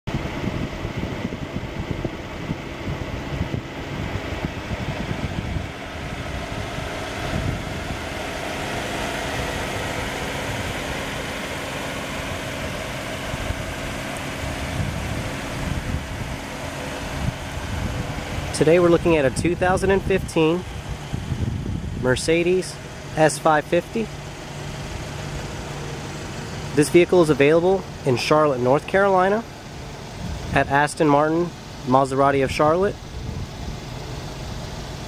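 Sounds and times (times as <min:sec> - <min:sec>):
wind buffeting microphone: 0:00.1 - 0:23.2, 0:23.8 - 0:30.8, 0:32.5 - 0:35.0
car engine idling: 0:00.1 - 0:35.0.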